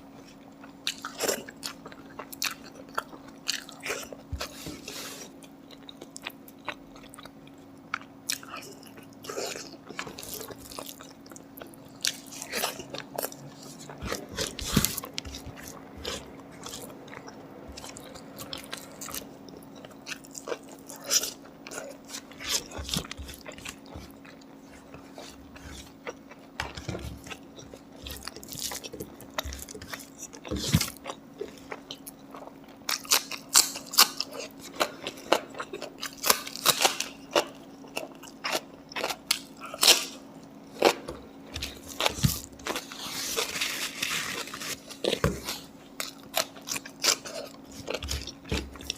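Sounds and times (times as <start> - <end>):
faint steady hum: 0.0 - 48.9
chewing and biting meat: 0.3 - 48.9.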